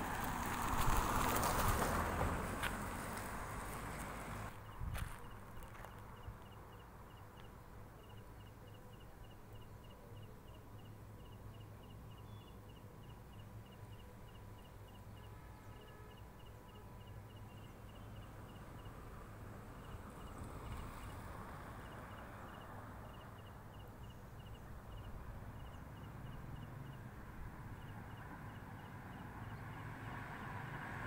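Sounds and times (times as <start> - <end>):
faint outdoor hum: 0.0 - 30.5.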